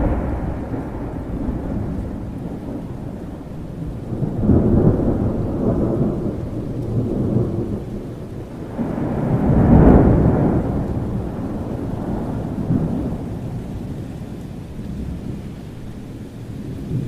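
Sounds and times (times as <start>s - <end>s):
rolling thunder: 0.0s - 17.0s
steady rain: 0.0s - 17.0s.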